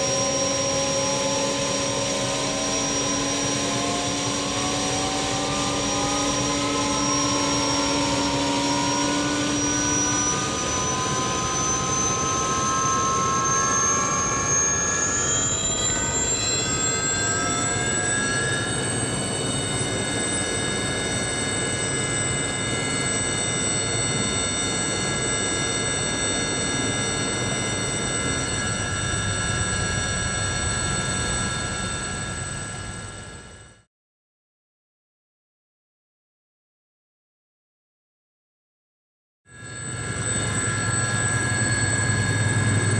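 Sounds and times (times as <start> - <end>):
turbine engine winding up: 0.0 - 33.8, 39.5 - 42.9.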